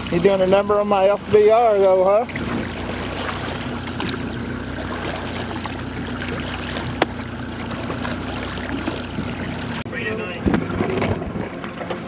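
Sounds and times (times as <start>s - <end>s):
boat engine running: 0.0s - 12.0s
water noise: 0.0s - 12.0s.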